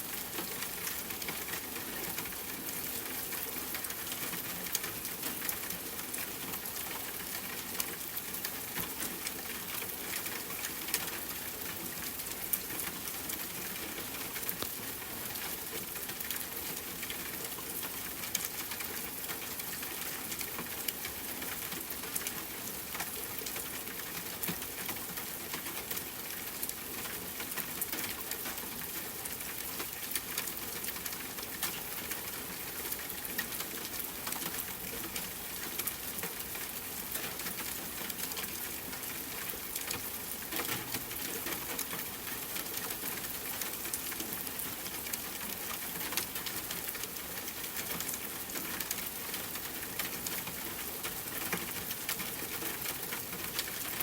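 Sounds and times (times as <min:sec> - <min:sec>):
rain pattering on tent fabric: 0:00.0 - 0:54.0.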